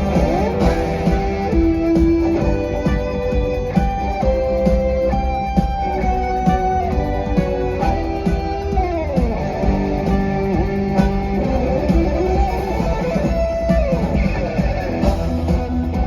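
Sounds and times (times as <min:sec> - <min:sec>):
bass: 0:00.0 - 0:16.0
drum beat: 0:00.0 - 0:16.0
electric guitar sliding notes: 0:00.0 - 0:16.0.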